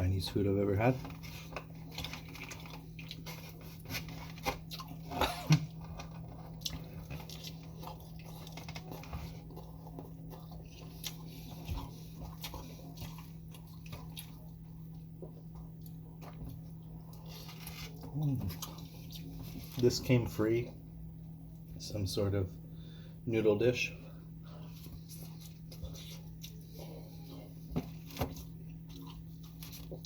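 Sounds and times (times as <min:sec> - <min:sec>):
steady low hum: 0:00.0 - 0:30.0
close-up chewing sounds: 0:00.3 - 0:20.8, 0:24.2 - 0:30.0.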